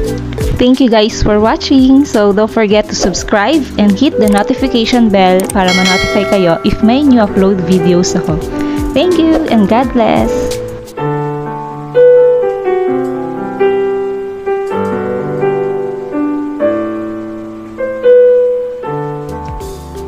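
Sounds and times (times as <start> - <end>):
electronic keyboard piano chords: 0.0 - 20.0.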